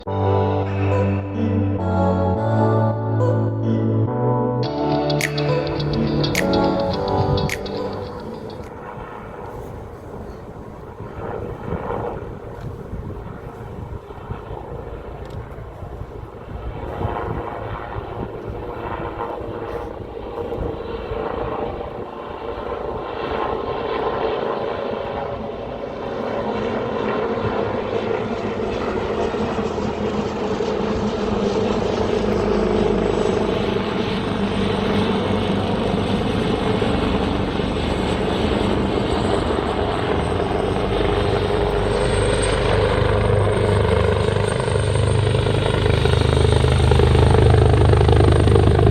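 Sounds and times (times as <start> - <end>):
high turbine whine: 4.6 - 48.9
helicopter engines and rotor: 5.2 - 48.9.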